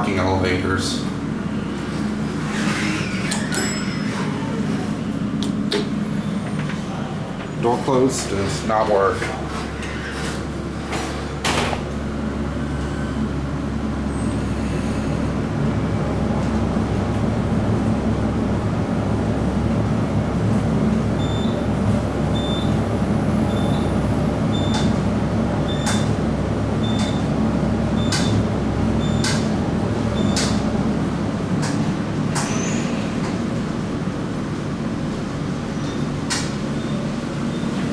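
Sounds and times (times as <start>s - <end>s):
elevator car rumble and hum: 0.0s - 37.9s.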